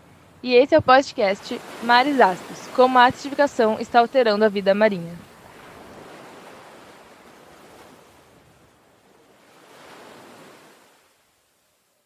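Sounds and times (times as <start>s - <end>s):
ocean waves washing onto shore: 0.0s - 11.9s.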